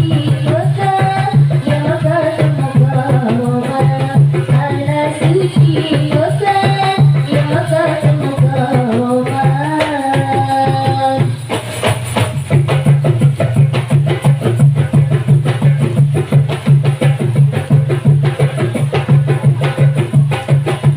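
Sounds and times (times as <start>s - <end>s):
hand drums playing rhythm: 0.0s - 20.9s.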